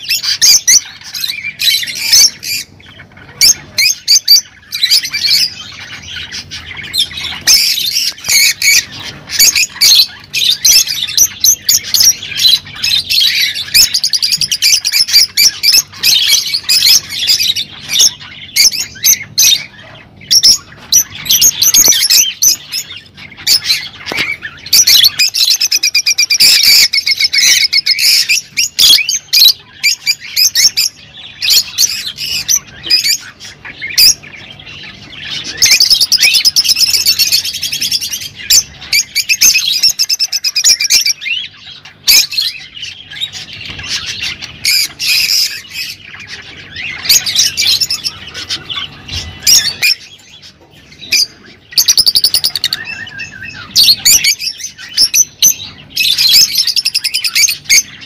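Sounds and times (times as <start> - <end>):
lovebirds chattering: 0.0 - 58.0.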